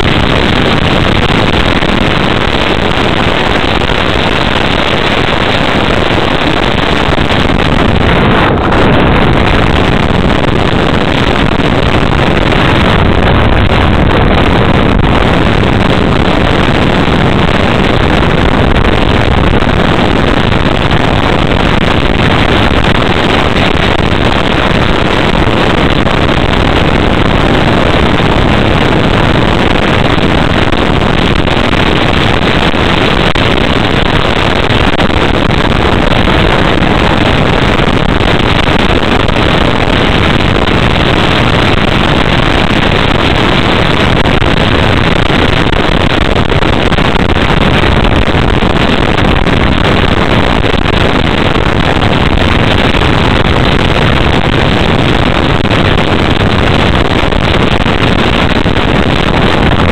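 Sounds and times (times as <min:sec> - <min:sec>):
air rushing over camera: 0:00.0 - 0:59.9.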